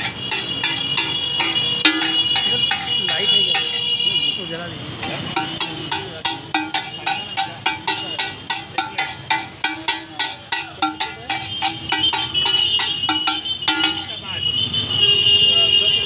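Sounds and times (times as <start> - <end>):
metal spatula striking griddle: 0.0 - 4.0, 5.0 - 14.4.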